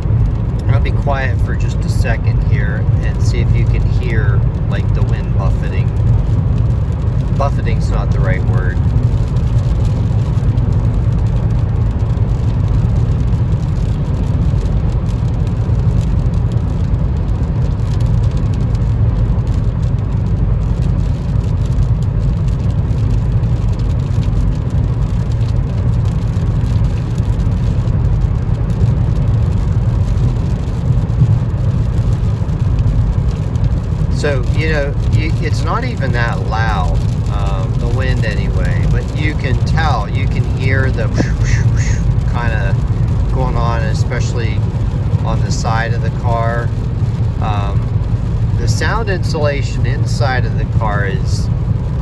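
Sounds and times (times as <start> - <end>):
tyres rumbling on wet road: 0.0 - 52.0.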